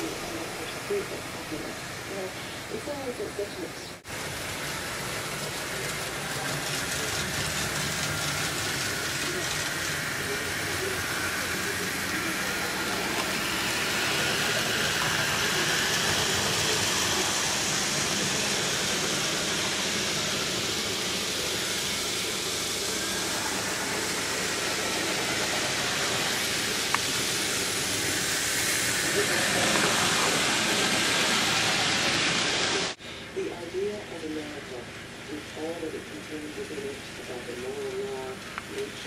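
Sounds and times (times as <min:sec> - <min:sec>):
model locomotive engine and hiss: 0:00.0 - 0:39.0.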